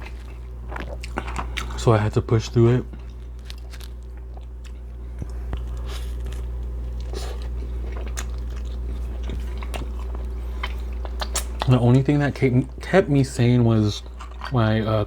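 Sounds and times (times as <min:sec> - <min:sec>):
chewing and biting food: 0:00.0 - 0:01.9, 0:02.8 - 0:14.7.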